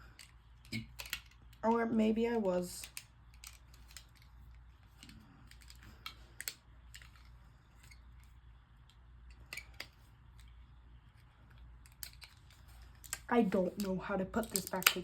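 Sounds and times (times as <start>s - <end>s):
low steady hum: 0.0s - 15.0s
plastic mouse parts clicking: 0.1s - 1.7s, 2.8s - 15.0s.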